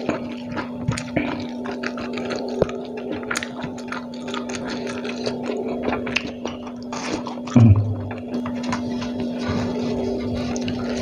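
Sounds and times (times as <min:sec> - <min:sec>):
chewing and wet mouth smacking: 0:00.0 - 0:11.0
steady low hum: 0:00.0 - 0:11.0.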